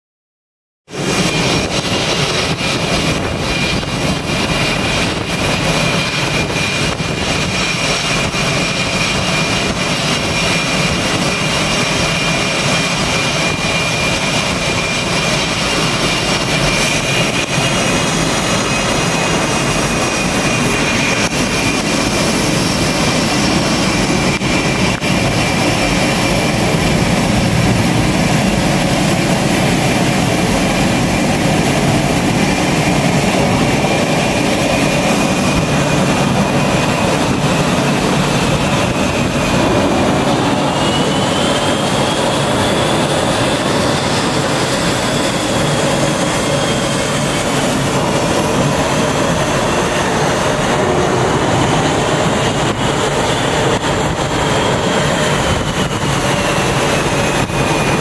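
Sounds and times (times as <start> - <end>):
jet engines roaring: 0.9 - 58.0.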